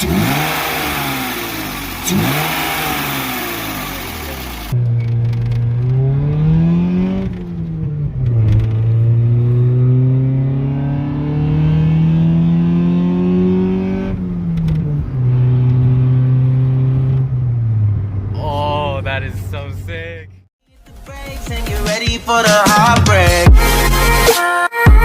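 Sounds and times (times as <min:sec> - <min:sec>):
car engine revving: 0:00.0 - 0:20.4.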